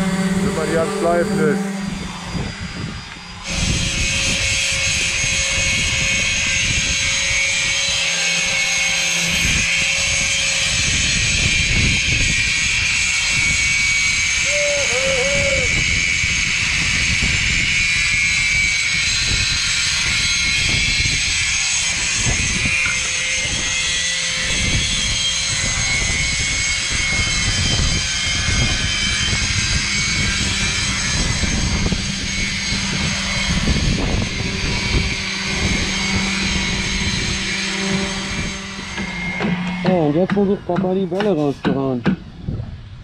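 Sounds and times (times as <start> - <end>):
grinder high whine: 0.0 - 42.0.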